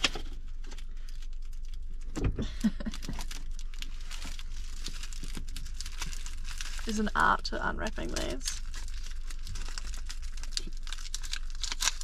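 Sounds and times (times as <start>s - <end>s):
plastic film wrapper crinkling: 0.0s - 12.0s.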